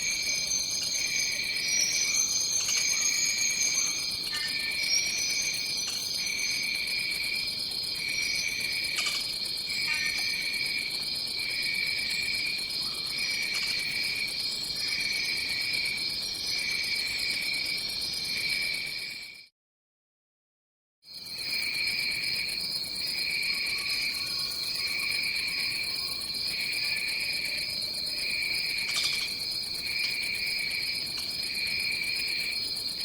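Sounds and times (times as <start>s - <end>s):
insect chorus drone: 0.0s - 19.5s, 21.1s - 33.0s.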